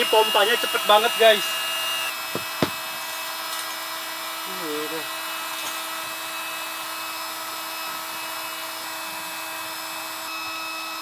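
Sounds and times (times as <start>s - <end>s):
electric air pump humming: 0.0s - 11.0s.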